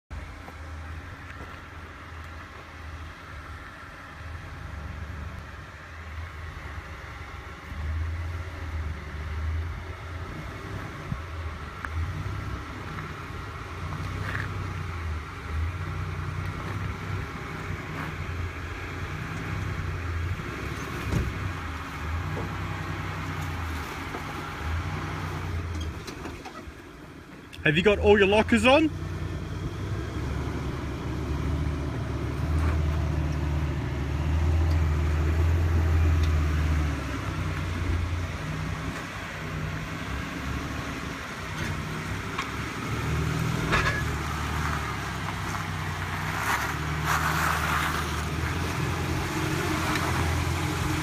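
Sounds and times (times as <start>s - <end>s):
engine rumbling at low revs: 0.0s - 51.0s.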